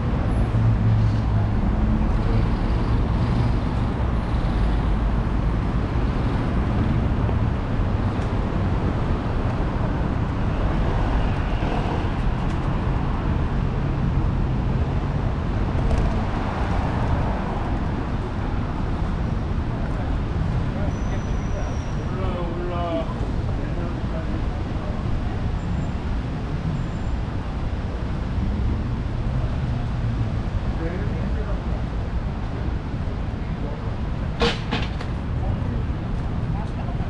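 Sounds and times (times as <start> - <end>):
traffic rumble of engines and tyres: 0.0 - 37.0.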